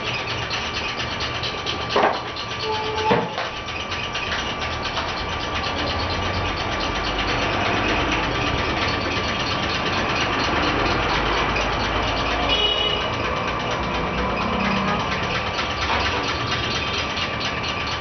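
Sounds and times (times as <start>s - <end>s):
machine droning: 0.0s - 18.0s.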